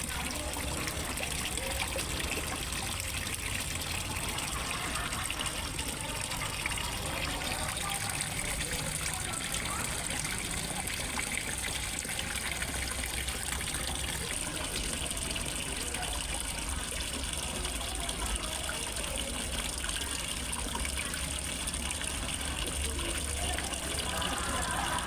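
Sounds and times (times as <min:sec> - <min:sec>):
water splashing into a pond: 0:00.0 - 0:25.0.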